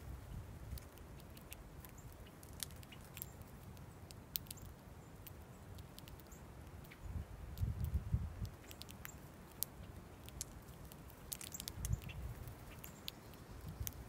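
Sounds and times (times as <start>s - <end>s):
beaks pecking seed on stone: 0.2s - 14.0s.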